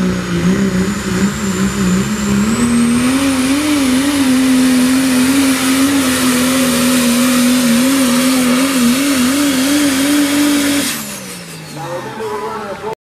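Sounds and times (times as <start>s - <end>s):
diesel engine at high revs: 0.0s - 13.0s.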